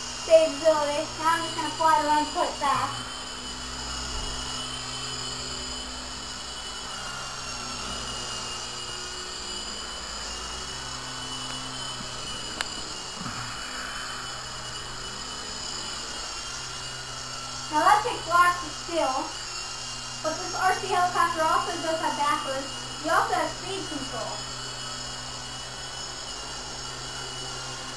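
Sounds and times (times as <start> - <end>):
rc helicopter rotors whirring: 0.0 - 27.9.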